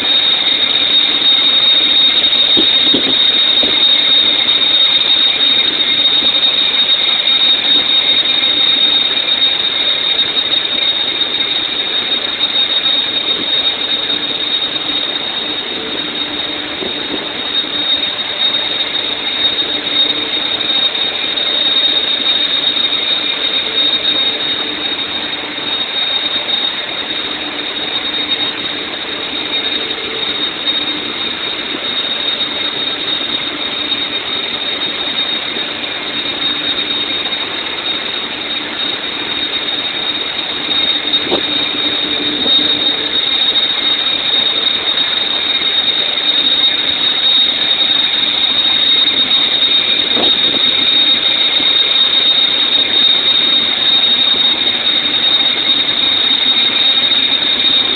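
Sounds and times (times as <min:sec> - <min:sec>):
constant high whine: 0:00.0 - 0:57.9
machinery roaring: 0:00.0 - 0:57.9.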